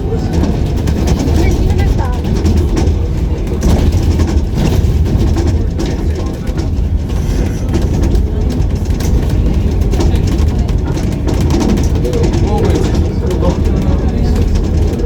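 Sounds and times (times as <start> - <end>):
bus engine and road rumble: 0.0 - 15.0
rattles and clicks: 0.0 - 15.0.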